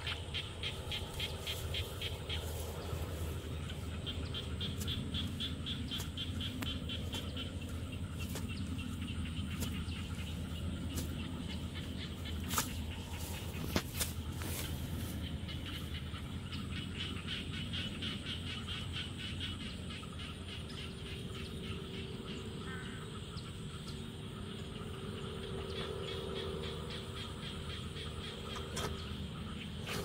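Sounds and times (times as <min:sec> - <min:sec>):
rhythmic pulsing animal call: 0:00.0 - 0:30.0
steady high-pitched buzz: 0:00.0 - 0:30.0.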